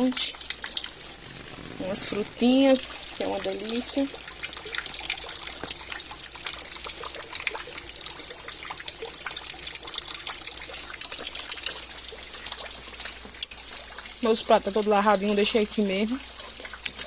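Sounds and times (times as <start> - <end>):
drips splashing: 0.0 - 17.0
rain falling: 0.0 - 17.0
water trickling: 0.0 - 17.0.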